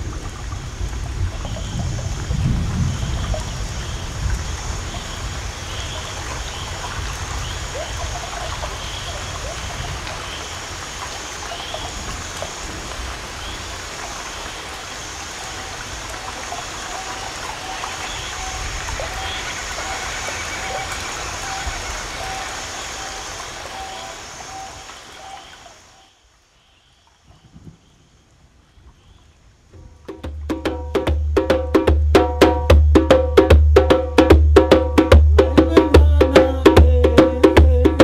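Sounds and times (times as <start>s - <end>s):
running water: 0.0s - 26.4s, 29.3s - 38.0s.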